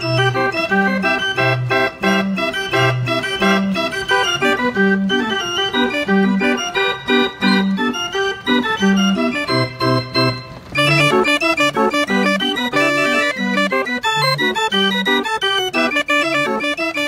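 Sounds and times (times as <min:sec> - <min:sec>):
band organ music with oom-pah beat: 0:00.0 - 0:17.0.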